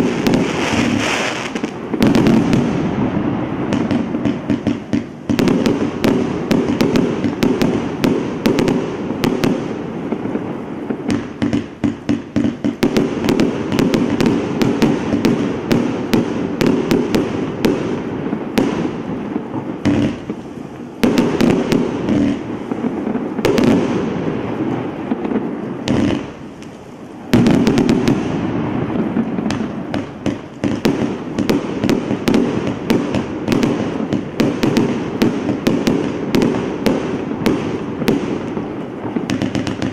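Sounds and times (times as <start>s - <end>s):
firework barrage: 0.0s - 39.9s.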